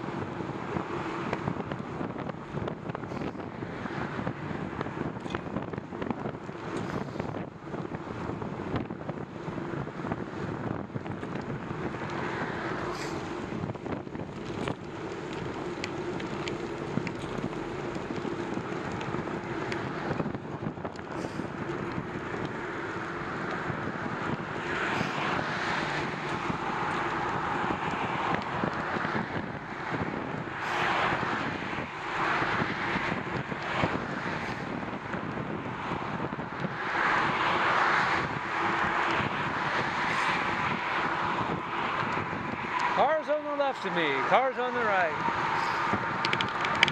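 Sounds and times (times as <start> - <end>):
passing vehicles: 0.0 - 46.9
road noise: 0.0 - 46.9
wind over microphone: 0.0 - 46.9.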